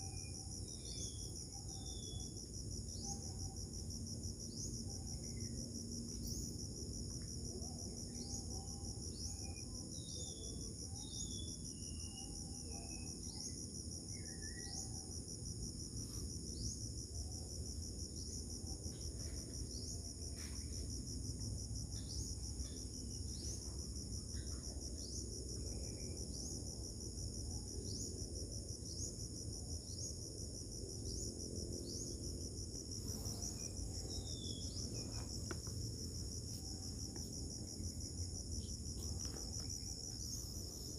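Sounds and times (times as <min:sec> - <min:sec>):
insect chorus trilling: 0:00.0 - 0:40.9.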